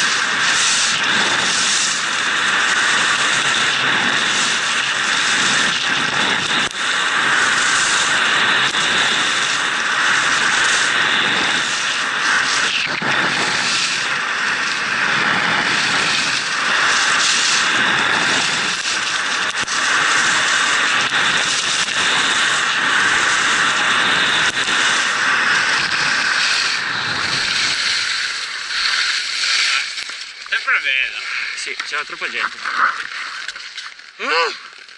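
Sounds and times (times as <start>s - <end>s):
wind rushing on microphone: 0.0s - 29.9s
skis scraping over packed snow: 0.0s - 34.9s.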